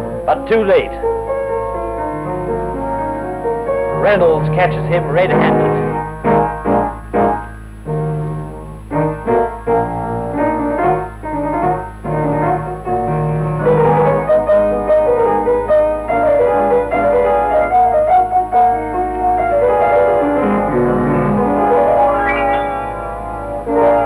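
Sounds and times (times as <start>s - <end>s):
piano film score music: 0.0s - 24.0s
steady low hum: 0.0s - 24.0s.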